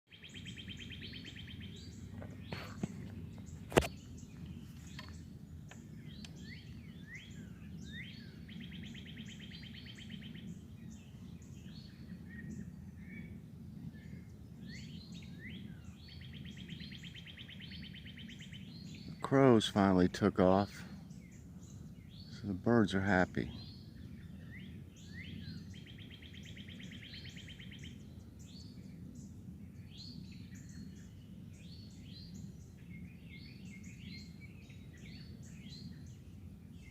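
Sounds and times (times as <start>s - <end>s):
songbird trilling: 0.1s - 13.4s, 14.0s - 36.9s
low background hum: 0.2s - 36.9s.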